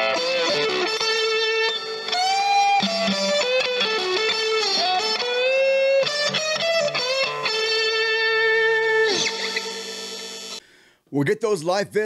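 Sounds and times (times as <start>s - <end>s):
electric guitar lead line: 0.0s - 10.6s.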